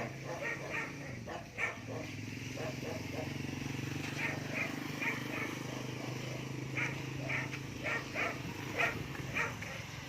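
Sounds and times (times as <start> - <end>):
dog barking: 0.0 - 3.4, 4.1 - 10.0.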